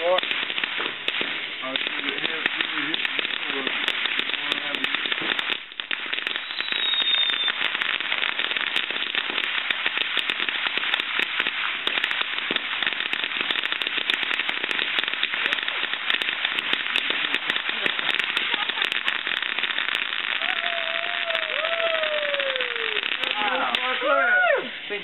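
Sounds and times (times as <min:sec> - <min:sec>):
firework hissing and crackling: 0:00.0 - 0:25.0.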